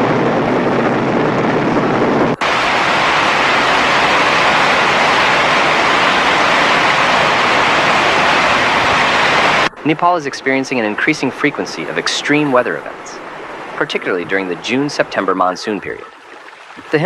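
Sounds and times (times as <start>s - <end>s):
rushing floodwater: 2.4s - 17.0s.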